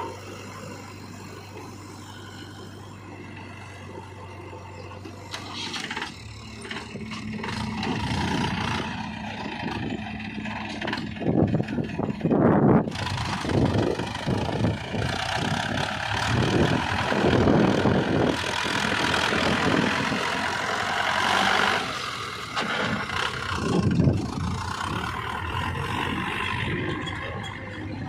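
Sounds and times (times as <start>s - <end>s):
diesel engine of heavy machinery: 0.0s - 28.0s.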